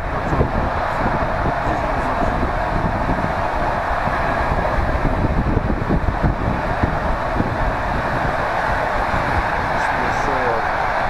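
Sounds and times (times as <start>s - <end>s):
rush of air: 0.0s - 11.0s.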